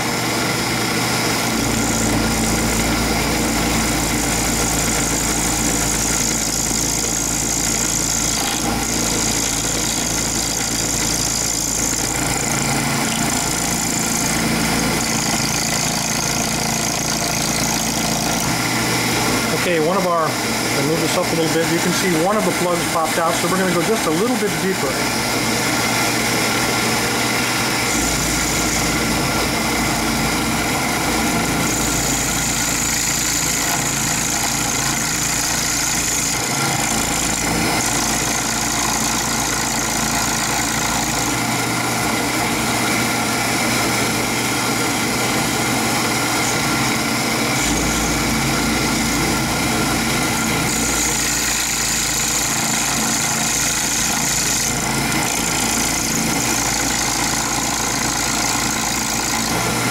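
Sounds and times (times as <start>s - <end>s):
high cutting whine: 0.0s - 59.9s
milling machine motor: 0.0s - 59.9s.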